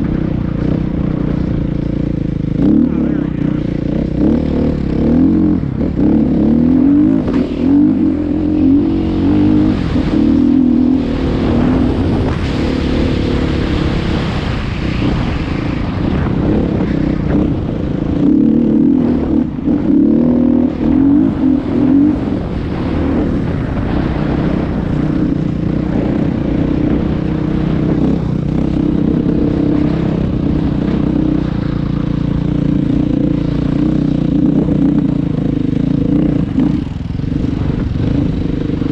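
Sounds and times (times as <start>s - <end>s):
broad rushing noise: 0.0s - 38.9s
vehicle engine running: 0.0s - 38.9s.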